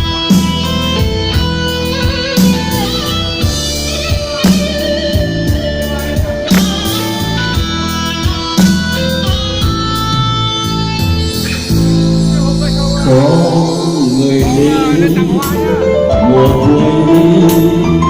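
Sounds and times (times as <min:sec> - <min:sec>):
instrumental backing music: 0:00.0 - 0:18.0.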